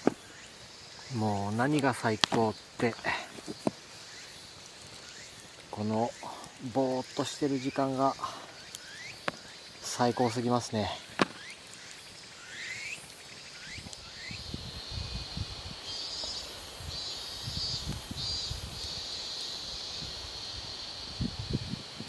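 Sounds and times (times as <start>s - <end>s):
insect buzzing: 0.0s - 22.0s.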